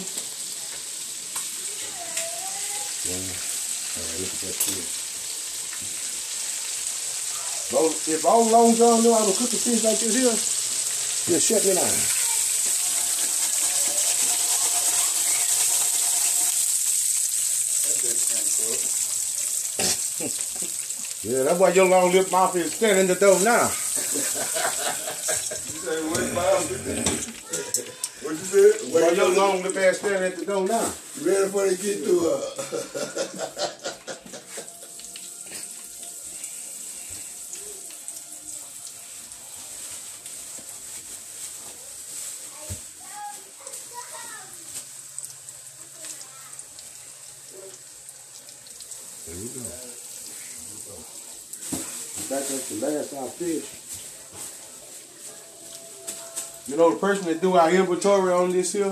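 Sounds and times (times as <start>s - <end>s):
oil sizzling: 0.0s - 58.9s.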